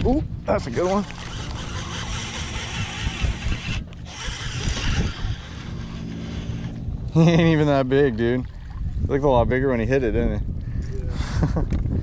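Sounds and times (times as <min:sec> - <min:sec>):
water rushing around boat: 0:00.0 - 0:09.8
wind on microphone: 0:00.0 - 0:12.0.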